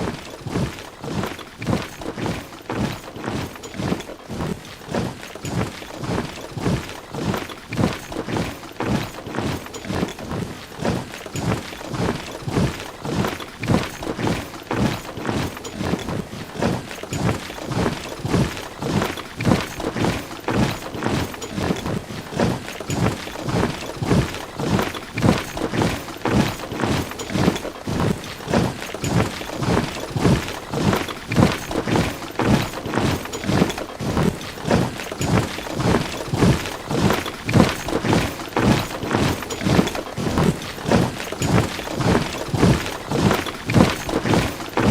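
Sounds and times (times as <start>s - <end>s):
soldiers marching footsteps: 0.0s - 44.9s.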